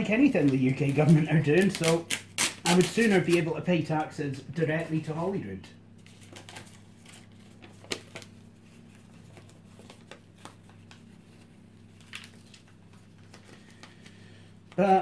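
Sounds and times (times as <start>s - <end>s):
paper and packaging rustling: 0.0s - 4.0s, 6.0s - 15.0s.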